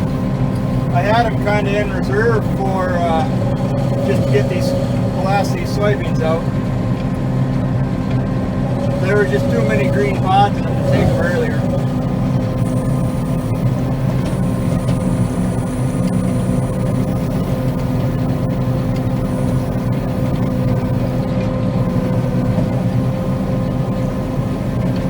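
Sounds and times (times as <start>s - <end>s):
combine harvester engine and threshing drone: 0.0s - 25.0s
steady machine whine: 0.0s - 25.0s.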